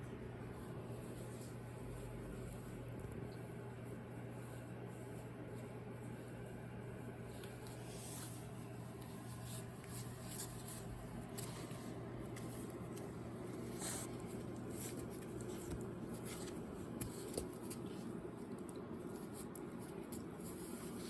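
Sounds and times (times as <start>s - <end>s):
puppy rustling and scratching: 0.0s - 21.0s
steady low hum: 0.0s - 21.0s.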